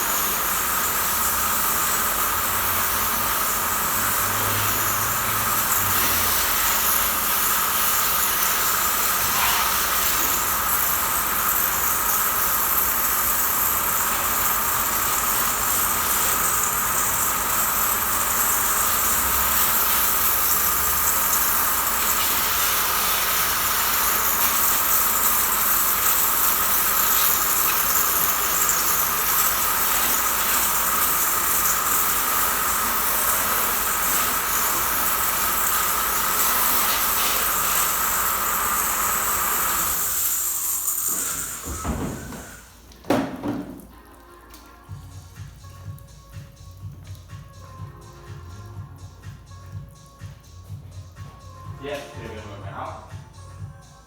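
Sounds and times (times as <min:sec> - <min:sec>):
pressure washer spraying water: 0:00.0 - 0:50.4.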